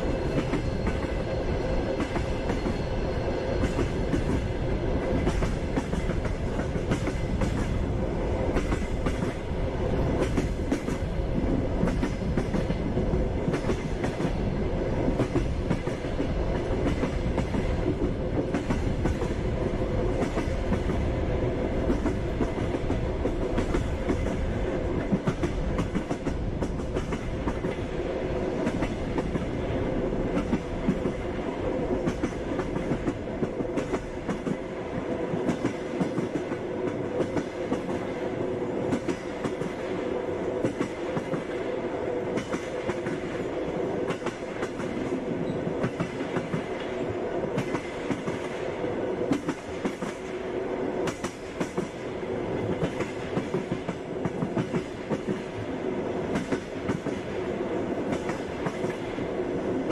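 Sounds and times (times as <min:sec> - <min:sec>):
train carriage rumbling: 0:00.0 - 0:59.9.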